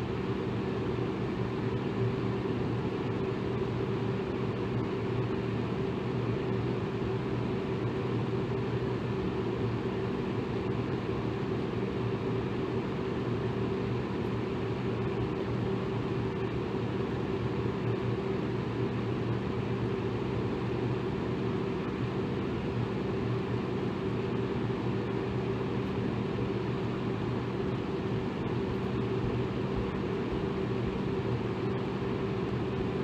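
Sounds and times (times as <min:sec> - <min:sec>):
electric fan air rush: 0:00.0 - 0:33.0
fan motor hum: 0:00.0 - 0:33.0.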